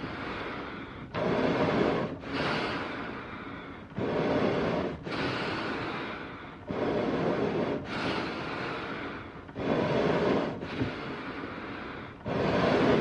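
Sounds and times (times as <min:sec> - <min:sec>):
animal breathing in and out: 0:00.0 - 0:13.0.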